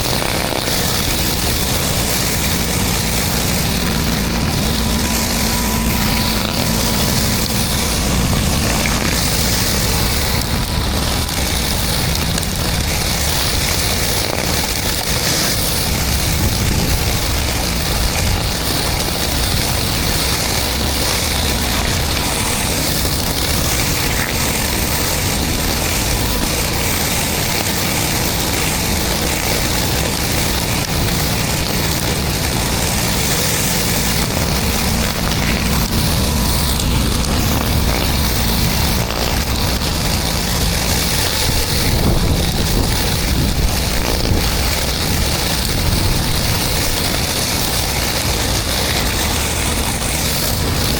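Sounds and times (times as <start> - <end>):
pressure washer spraying: 0.0 - 50.9.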